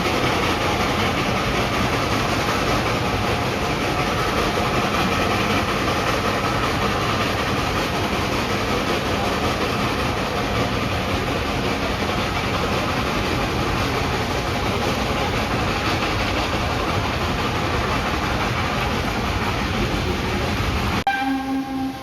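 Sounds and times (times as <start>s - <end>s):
moving train rumble and rattle: 0.0s - 22.0s.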